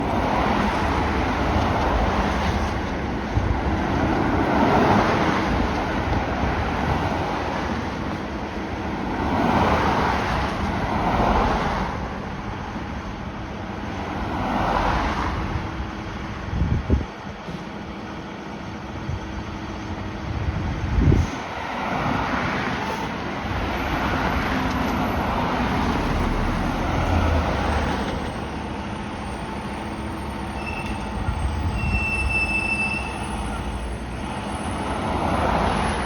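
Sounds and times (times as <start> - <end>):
fire engine: 0.0 - 36.0.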